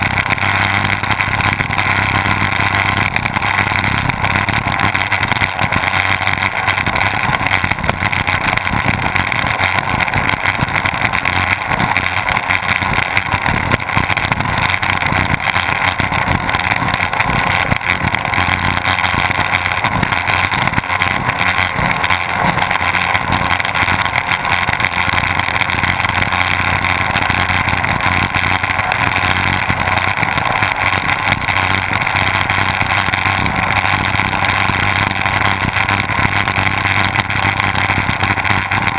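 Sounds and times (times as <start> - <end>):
outboard motors running: 0.0 - 38.9.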